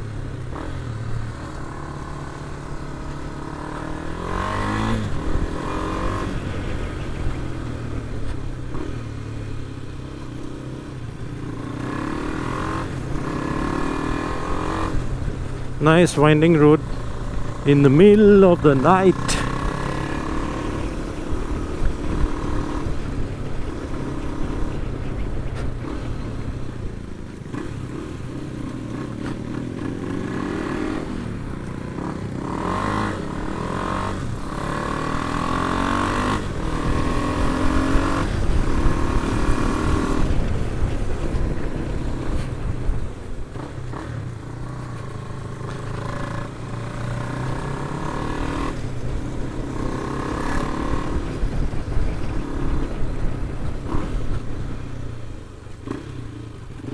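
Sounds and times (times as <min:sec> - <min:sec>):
motorcycle engine revving: 0:00.0 - 0:56.9
wind and road rumble: 0:00.0 - 0:56.9.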